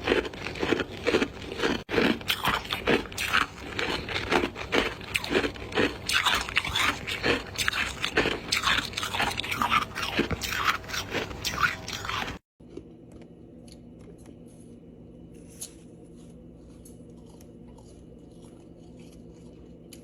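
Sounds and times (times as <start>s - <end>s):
ice being chewed: 0.0s - 14.9s, 15.5s - 20.0s.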